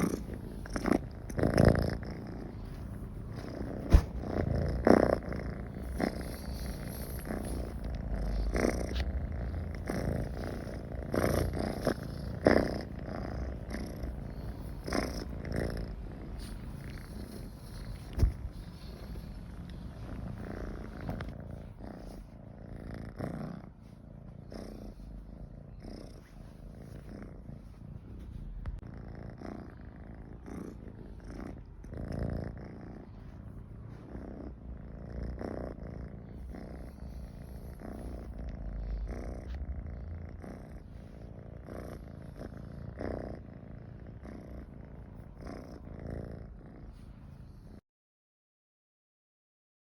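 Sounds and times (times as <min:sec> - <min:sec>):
cat purring: 0:00.0 - 0:47.8.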